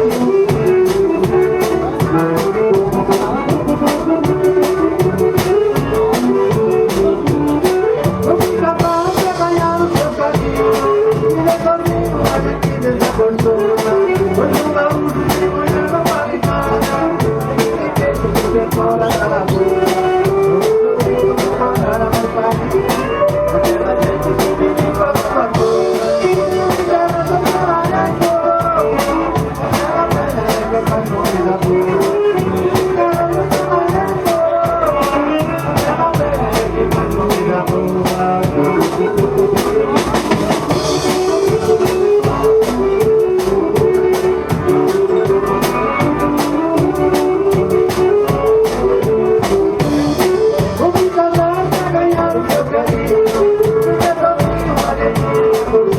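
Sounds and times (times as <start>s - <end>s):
accordion melody: 0.0s - 55.9s
drum kit steady beat: 0.0s - 55.9s.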